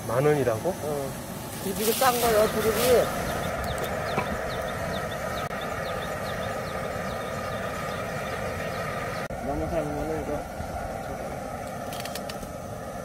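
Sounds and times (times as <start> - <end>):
gas burner roar: 0.0 - 13.0
water boiling hard: 0.0 - 13.0.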